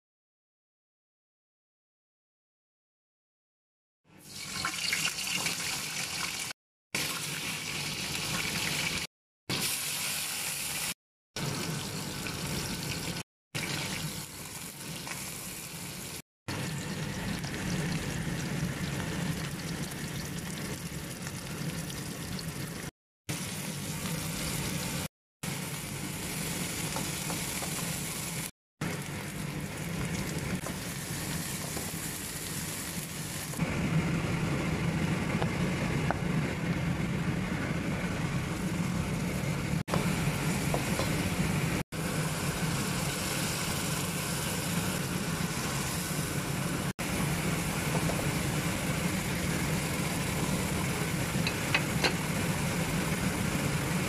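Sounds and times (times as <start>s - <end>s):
hot oil sizzling in a wok: 4.2s - 35.4s, 38.5s - 54.0s.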